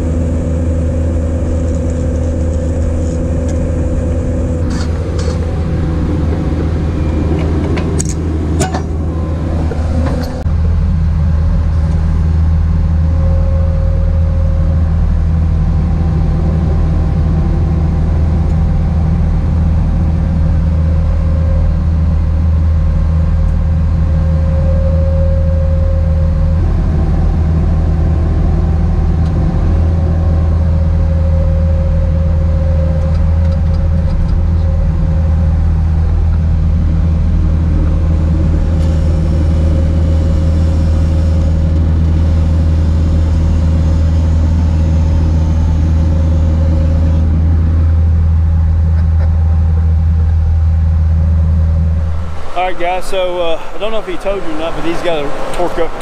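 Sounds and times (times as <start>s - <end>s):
diesel engine under load: 0.0s - 56.0s
hydraulic whine: 0.0s - 56.0s.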